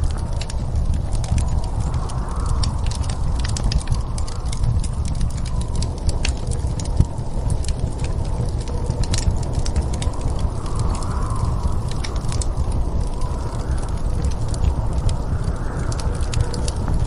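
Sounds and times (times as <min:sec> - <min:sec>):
wind rumble: 0:00.0 - 0:17.0
wood fire crackling: 0:00.0 - 0:17.0.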